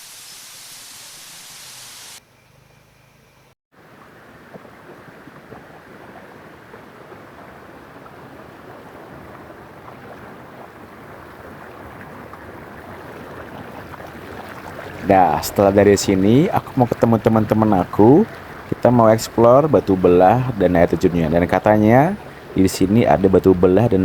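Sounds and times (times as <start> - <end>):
river water rushing: 3.8 - 24.0.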